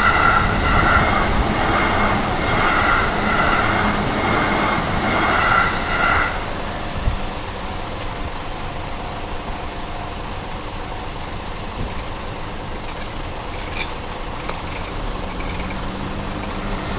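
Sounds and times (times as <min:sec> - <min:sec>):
traffic engines idling: 0:00.0 - 0:16.9.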